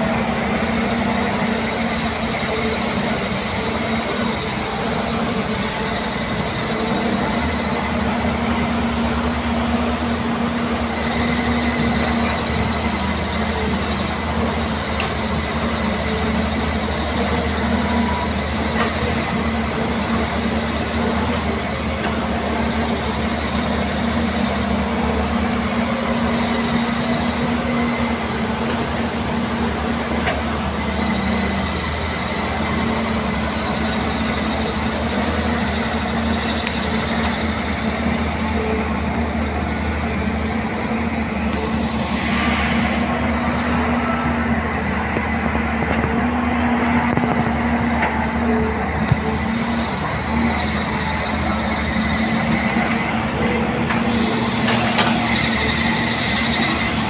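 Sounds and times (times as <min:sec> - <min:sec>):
excavator diesel engine under load: 0:00.0 - 0:57.0.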